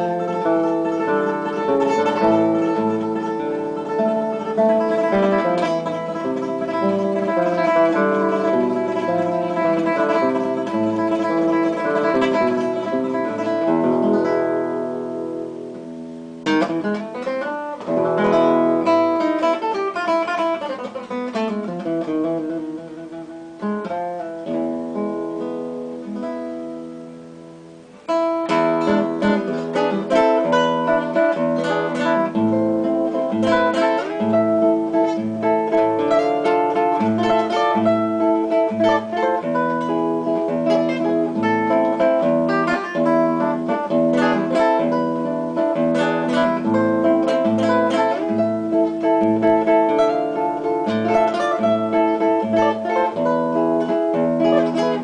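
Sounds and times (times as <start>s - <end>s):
plucked guitar music: 0.0s - 55.0s.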